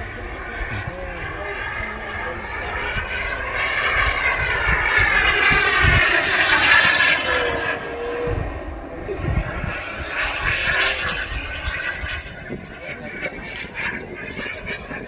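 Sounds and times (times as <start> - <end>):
model airplane engine passing overhead: 0.0 - 15.0.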